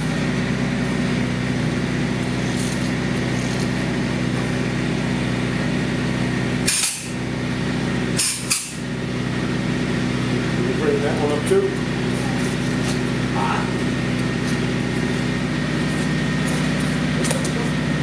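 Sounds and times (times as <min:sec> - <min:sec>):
engine-driven equipment droning: 0:00.0 - 0:18.0.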